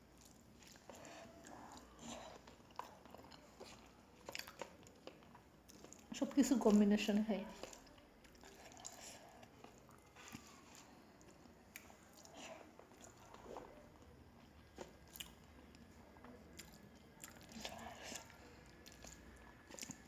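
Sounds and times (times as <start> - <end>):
person chewing food: 0.1 - 6.1, 7.5 - 20.0.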